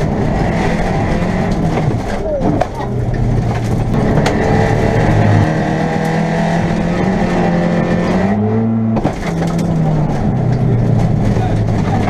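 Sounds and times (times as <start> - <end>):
car engine pulling hard: 0.0 - 12.0.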